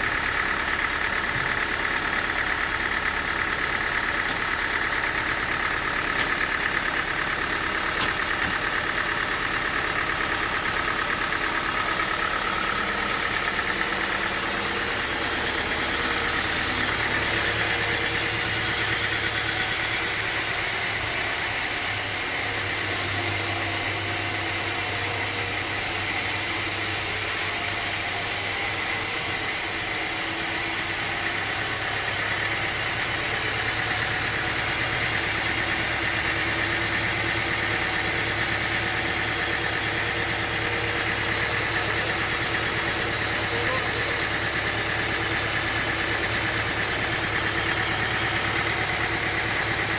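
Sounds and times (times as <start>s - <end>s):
sawmill machinery whining: 0.0s - 49.9s.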